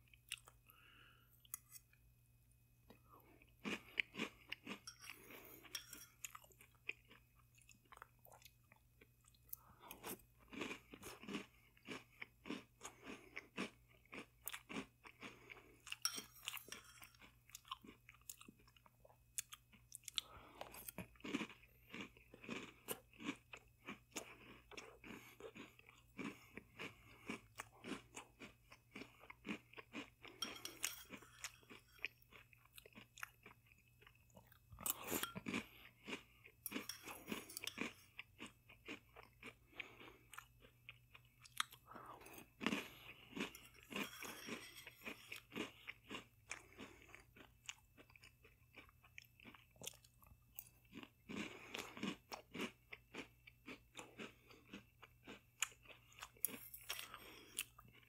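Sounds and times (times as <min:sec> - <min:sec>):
crunchy cereal chewing: 0:02.9 - 0:58.0.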